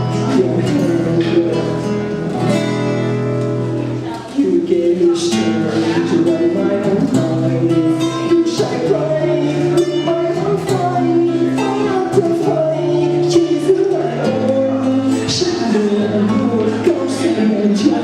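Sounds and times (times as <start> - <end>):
strummed acoustic guitar song: 0.0 - 18.0.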